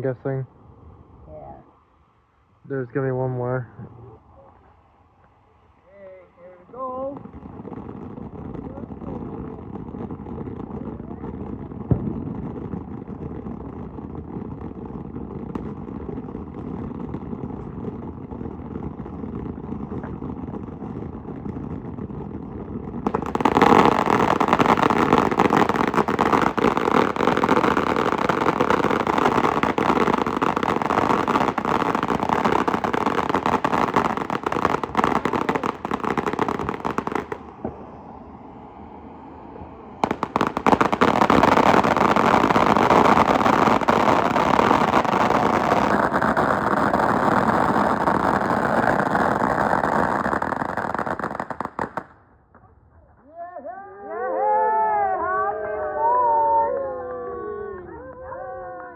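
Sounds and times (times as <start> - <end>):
fireworks crackling: 4.6 - 52.7.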